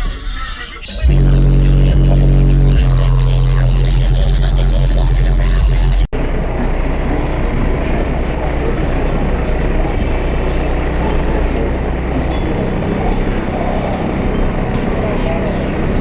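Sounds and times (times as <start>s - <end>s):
outdoor din with low hum: 0.0s - 16.0s
bass-heavy car subwoofer music: 0.9s - 16.0s.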